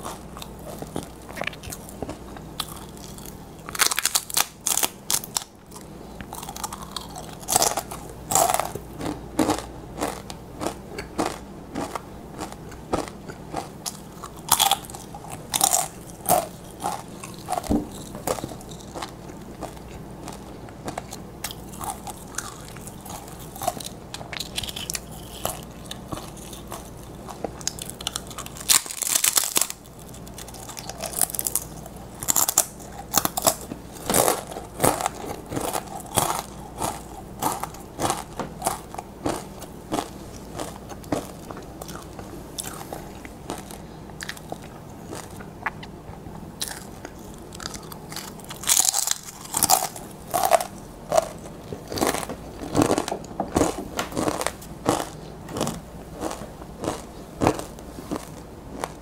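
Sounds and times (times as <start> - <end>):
chips crunching while chewed: 0.0 - 59.0.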